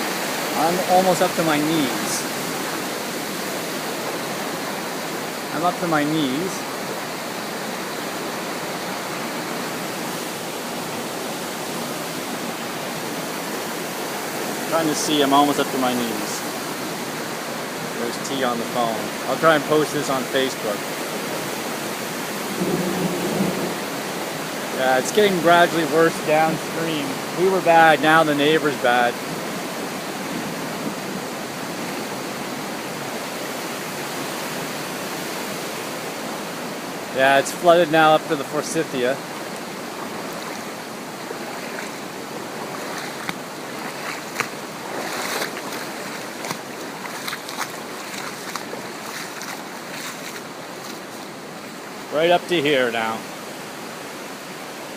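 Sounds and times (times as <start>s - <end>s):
floodwater rushing: 0.0s - 54.9s.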